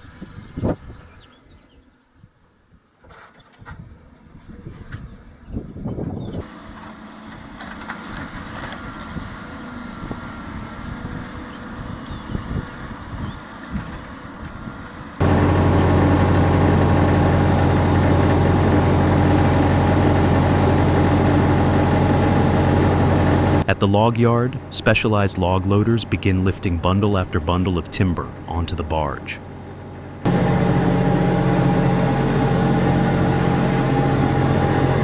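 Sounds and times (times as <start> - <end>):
heavy machinery engine running: 6.4 - 35.0.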